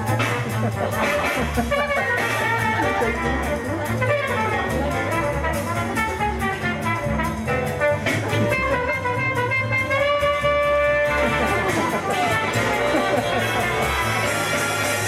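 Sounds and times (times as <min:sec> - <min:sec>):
band music with steady beat: 0:00.0 - 0:15.0.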